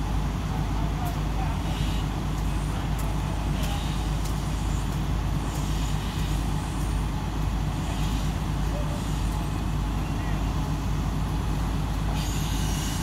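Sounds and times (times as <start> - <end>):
crane diesel engine droning: 0.0 - 13.0.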